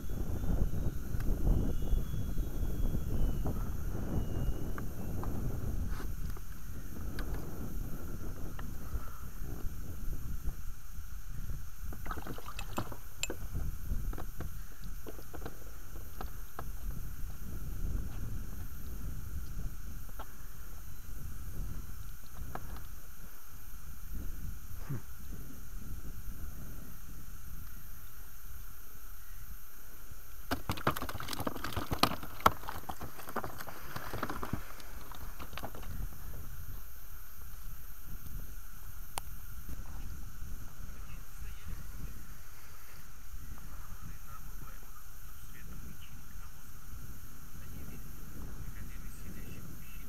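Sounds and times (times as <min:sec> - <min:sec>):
wind rumble on microphone: 0:00.0 - 0:29.4, 0:30.6 - 0:50.0.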